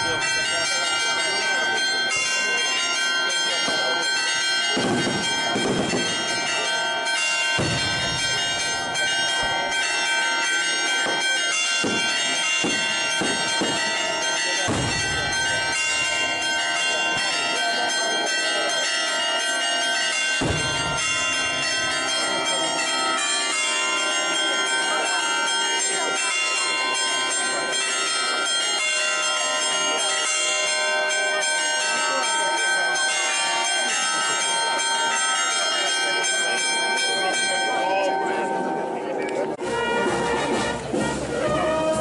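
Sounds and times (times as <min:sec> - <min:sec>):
church bells pealing: 0:00.0 - 0:42.0
crowd voices: 0:00.0 - 0:42.0.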